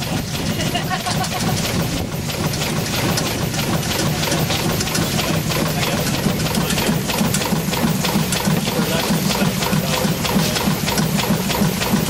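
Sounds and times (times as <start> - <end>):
steam engine clattering: 0.0 - 12.0.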